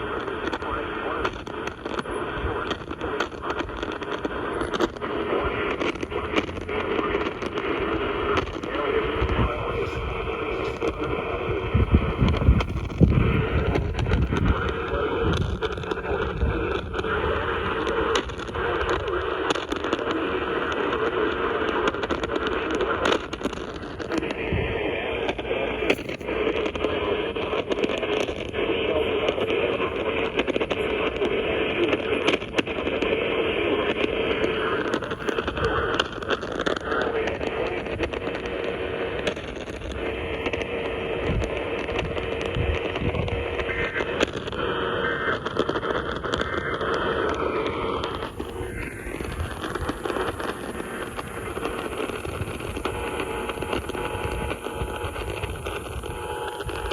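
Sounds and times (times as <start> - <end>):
hum: 0.0 - 56.9
radio static hiss: 0.0 - 56.9
static crackles and pops: 0.0 - 56.9.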